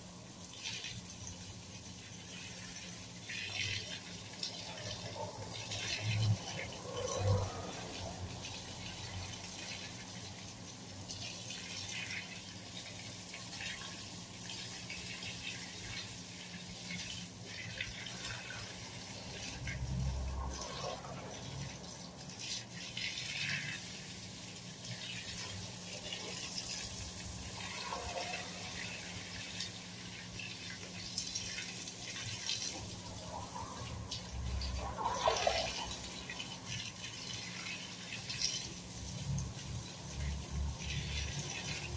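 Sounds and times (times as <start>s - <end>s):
garden hose spraying water: 0.0s - 41.9s.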